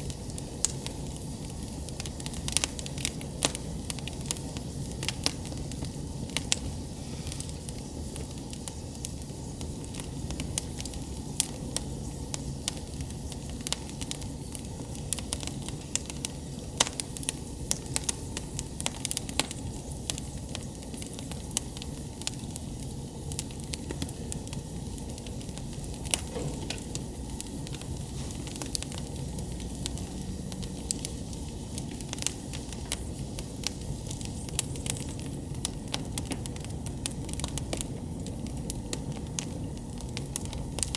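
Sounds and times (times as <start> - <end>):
campfire crackling and popping: 0.0 - 40.9
low rush of flame: 0.0 - 40.9.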